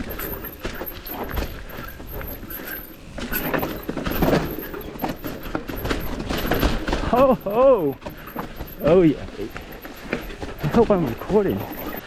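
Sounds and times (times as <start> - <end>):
bike chain rattling: 0.0 - 12.0
bike tyres on dirt: 0.0 - 12.0.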